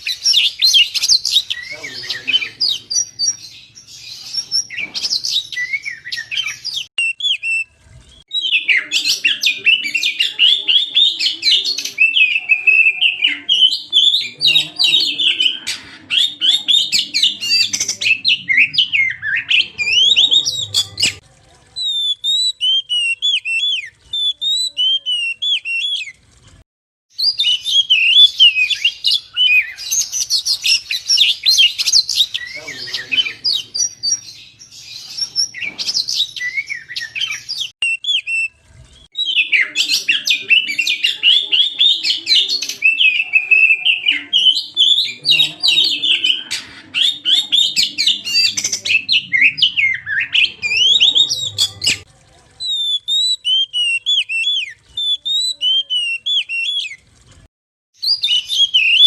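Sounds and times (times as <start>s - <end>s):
bird singing chattering phrases: 0.0s - 21.2s, 27.2s - 57.0s, 58.0s - 59.0s.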